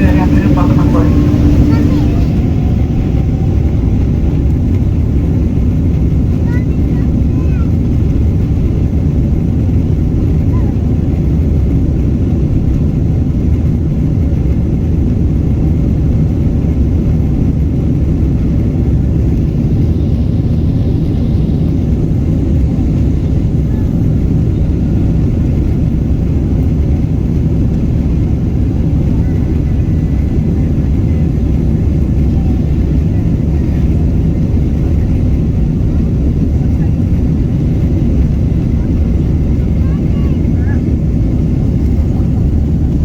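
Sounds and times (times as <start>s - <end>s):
airplane cabin engine rumble: 0.0s - 43.0s.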